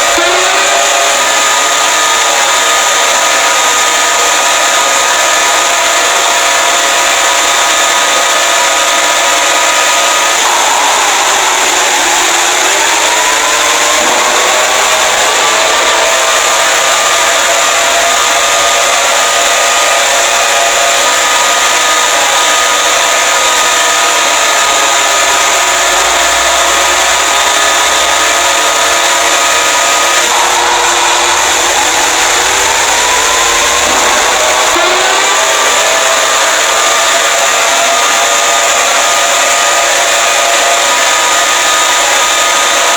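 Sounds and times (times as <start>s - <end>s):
alarm siren tones sliding: 0.0s - 42.9s.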